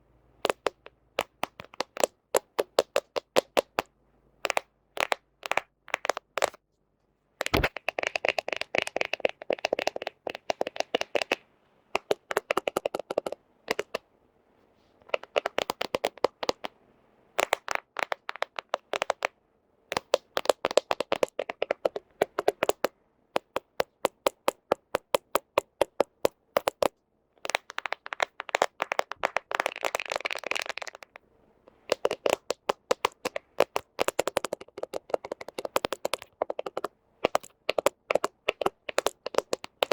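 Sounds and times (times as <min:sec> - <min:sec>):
fingernails tapping on phone: 0:00.4 - 0:06.6, 0:07.4 - 0:11.4, 0:12.0 - 0:14.0, 0:15.0 - 0:16.8, 0:17.4 - 0:39.9.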